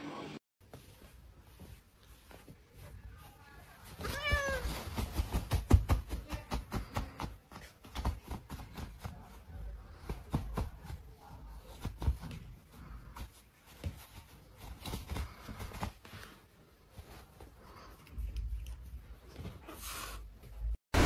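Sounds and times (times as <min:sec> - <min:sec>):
irregular rustling: 0:00.6 - 0:20.8.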